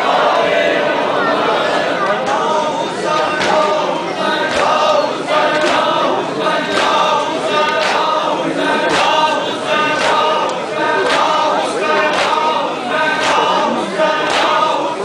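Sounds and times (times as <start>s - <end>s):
crowd of men chanting: 0.0s - 15.0s.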